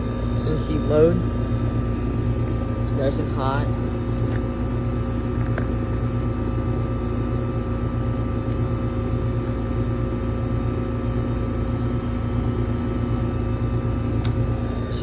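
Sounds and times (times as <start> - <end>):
fan rushing: 0.0 - 15.0
heat pump compressor hum: 0.0 - 15.0.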